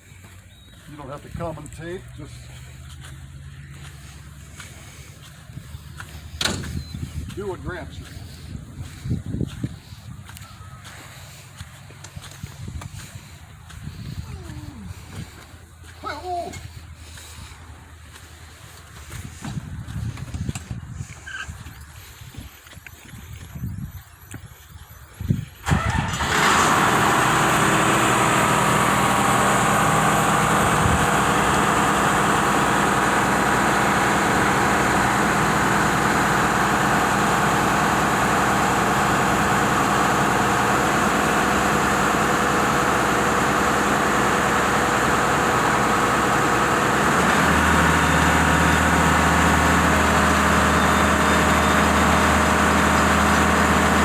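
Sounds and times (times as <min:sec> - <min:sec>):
diesel engine starting and running: 0:00.0 - 0:54.0
deeper engine note: 0:00.6 - 0:18.8, 0:25.7 - 0:54.0.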